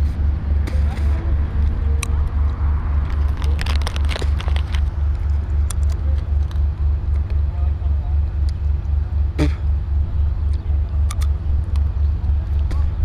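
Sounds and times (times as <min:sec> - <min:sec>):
loud low pulsing rumble: 0:00.0 - 0:13.0.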